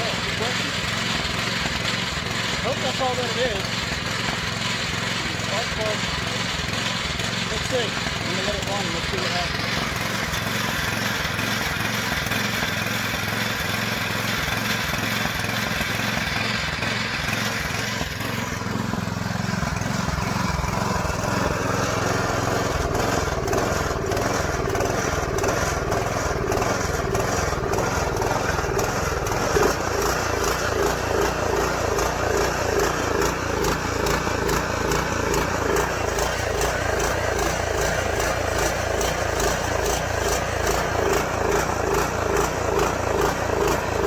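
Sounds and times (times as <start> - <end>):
snowblower engine running: 0.0 - 44.0.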